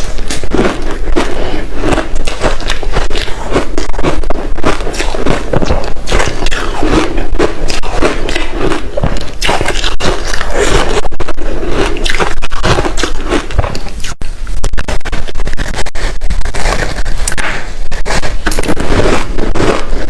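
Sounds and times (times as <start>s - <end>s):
ice being chewed: 0.0s - 14.2s, 15.2s - 20.0s.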